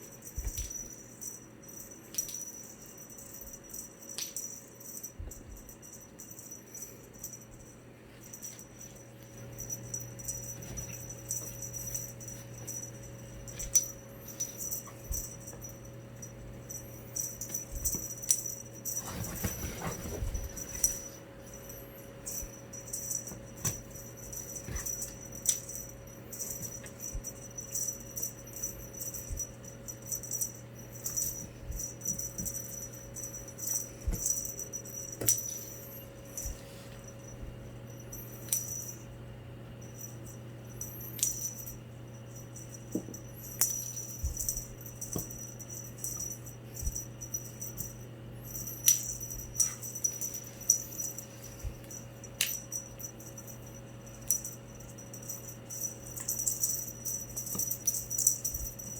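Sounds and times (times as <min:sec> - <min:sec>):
low electrical hum: 0:00.0 - 0:58.9.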